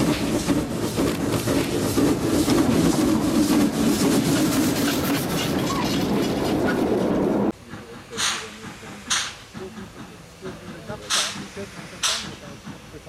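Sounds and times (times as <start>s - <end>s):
steam hissing: 0.0s - 13.0s
steam locomotive passing: 0.0s - 13.0s
wheels clacking over rail joints: 0.0s - 13.0s.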